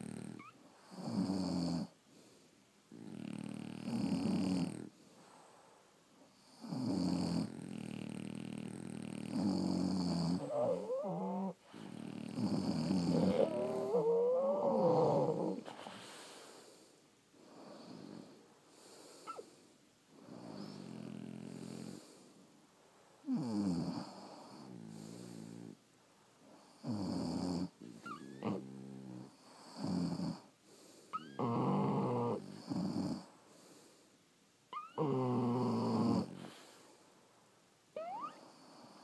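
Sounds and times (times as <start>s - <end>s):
dog snoring: 0.0s - 5.0s, 6.4s - 16.8s, 17.4s - 19.5s, 20.2s - 22.3s, 23.2s - 25.8s, 26.5s - 34.0s, 34.7s - 37.0s, 38.0s - 39.0s
soft breaths: 1.8s - 6.7s, 7.4s - 27.0s, 27.6s - 39.0s.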